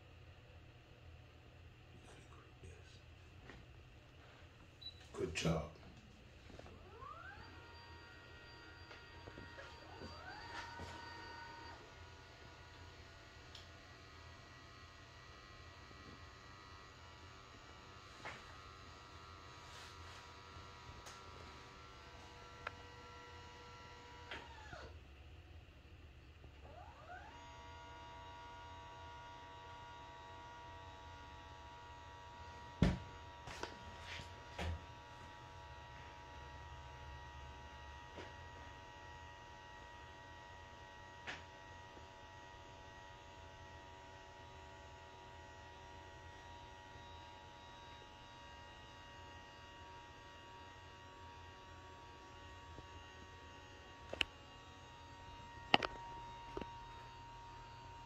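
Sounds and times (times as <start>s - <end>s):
electric actuator whining: 6.5s - 25.0s, 26.6s - 58.0s.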